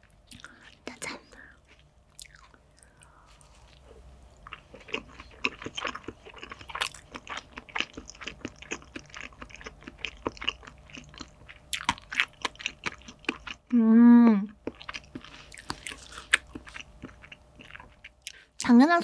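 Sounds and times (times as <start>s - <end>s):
wet crunchy chewing: 1.6s - 13.7s, 14.6s - 18.5s.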